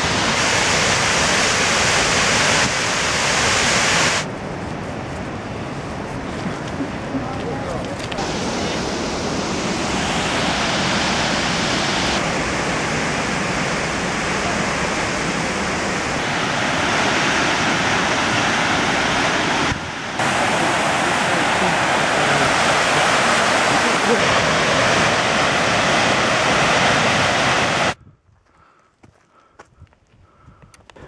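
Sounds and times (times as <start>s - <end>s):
sea surf: 0.0s - 28.0s
wind: 0.0s - 31.0s.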